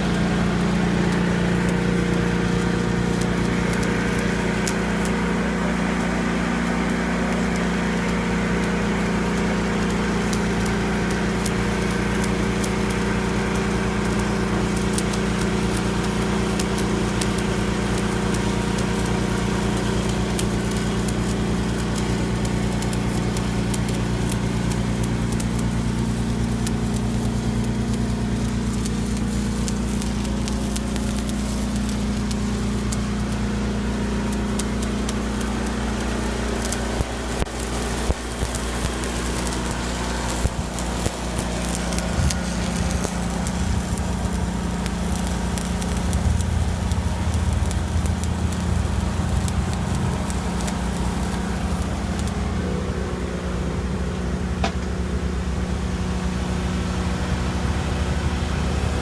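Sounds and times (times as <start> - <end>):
light irregular crackle: 0.0 - 52.6
engine running steadily: 0.0 - 59.0.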